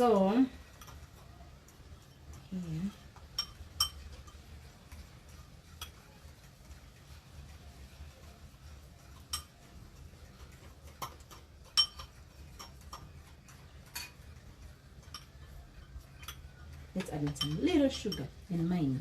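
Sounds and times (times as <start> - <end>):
metal utensil clinking on bowl: 0.0 - 6.8, 9.0 - 19.0.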